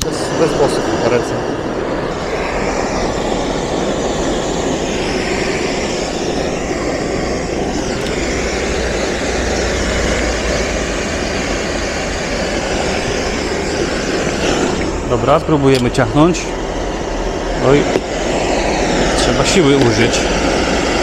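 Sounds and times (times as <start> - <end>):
gas torch burning: 0.0 - 21.0.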